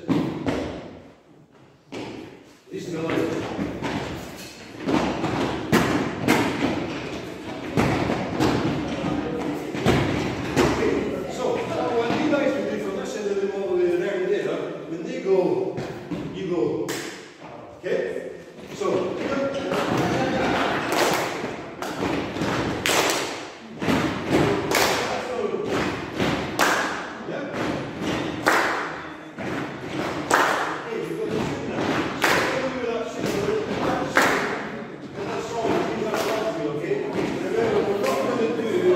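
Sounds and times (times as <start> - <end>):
rhythmic thumps in pairs: 1.9 - 13.0, 18.6 - 38.9.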